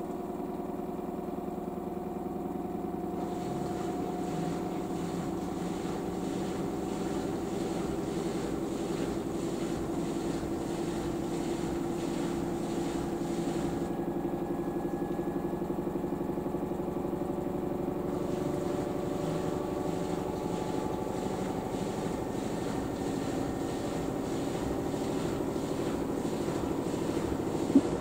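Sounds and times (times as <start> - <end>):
washing machine spinning: 0.0 - 28.0.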